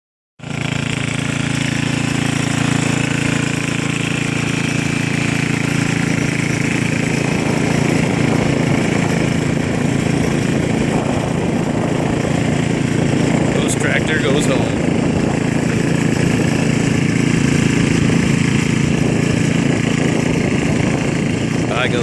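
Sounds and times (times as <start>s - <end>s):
small tractor engine running: 0.4s - 22.0s.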